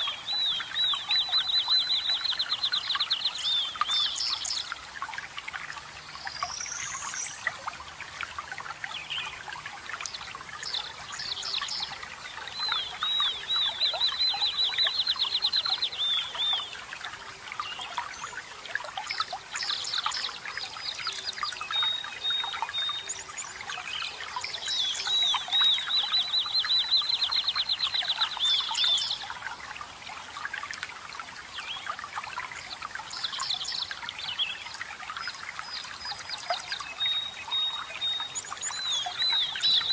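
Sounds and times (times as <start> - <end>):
forest birds singing: 0.0 - 4.9, 8.7 - 18.4, 19.1 - 29.4, 31.5 - 39.9
water trickling: 0.0 - 39.9.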